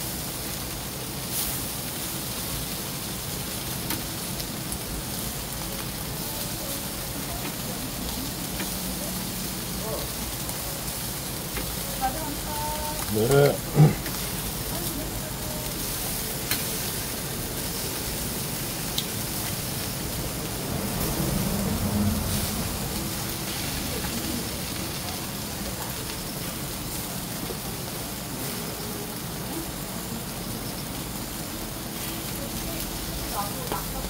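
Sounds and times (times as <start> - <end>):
fish sizzling on a grill: 0.0 - 34.0.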